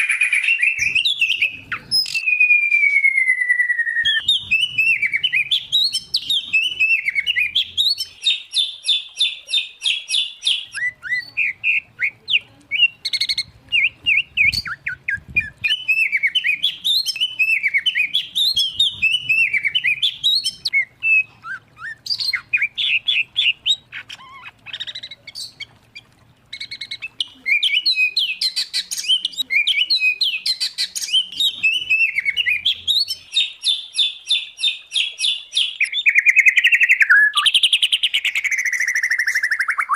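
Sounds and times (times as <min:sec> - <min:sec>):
songbirds whistling and trilling: 0:00.0 - 0:39.9.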